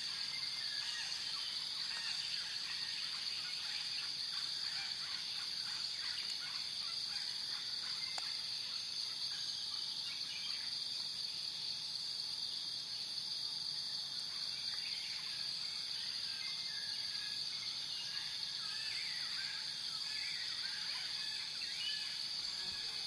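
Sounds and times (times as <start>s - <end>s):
steady high-pitched hiss: 0.0s - 23.0s.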